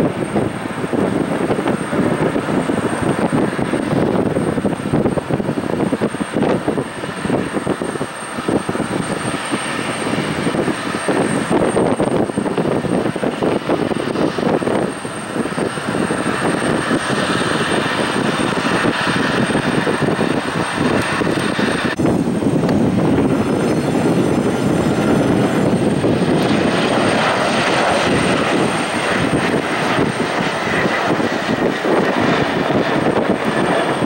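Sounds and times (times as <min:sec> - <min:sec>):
jet engines at takeoff: 0:00.0 - 0:34.0.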